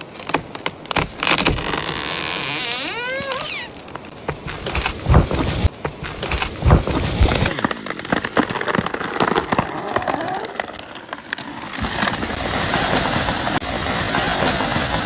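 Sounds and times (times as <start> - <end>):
tree crashing through branches: 0.0 - 15.0
wood splintering and cracking: 0.0 - 15.0.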